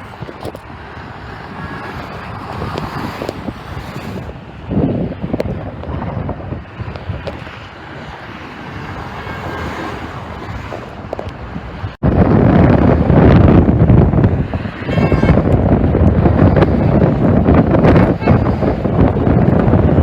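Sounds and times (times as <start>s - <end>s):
vehicle and traffic rumble: 0.0s - 20.0s
wind buffeting microphone: 0.0s - 20.0s.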